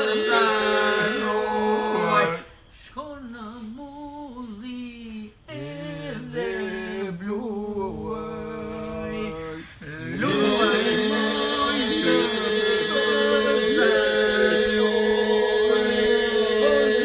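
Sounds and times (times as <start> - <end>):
men singing unaccompanied: 0.0 - 2.5, 5.5 - 17.0
held vocal drone: 0.0 - 2.6, 5.3 - 17.0.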